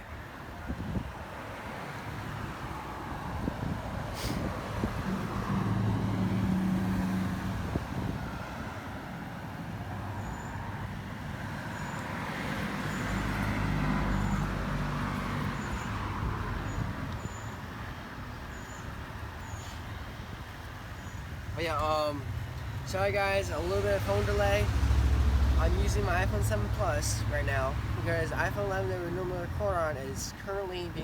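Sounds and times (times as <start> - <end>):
traffic engine hum: 0.0 - 31.0.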